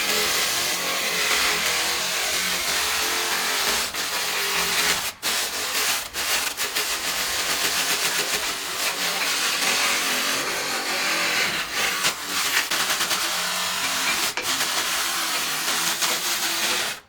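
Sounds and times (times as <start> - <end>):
power tool on wood: 0.0 - 17.0.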